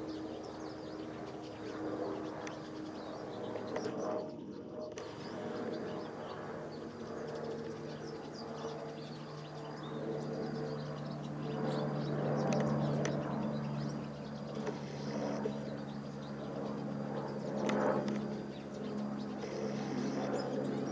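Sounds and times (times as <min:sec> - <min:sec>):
birds chirping: 0:00.0 - 0:20.9
helicopter rotor and turbine drone: 0:00.0 - 0:20.9.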